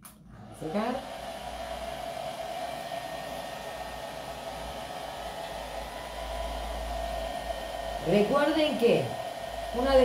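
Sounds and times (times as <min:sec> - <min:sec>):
hair dryer blowing: 0:00.3 - 0:10.0.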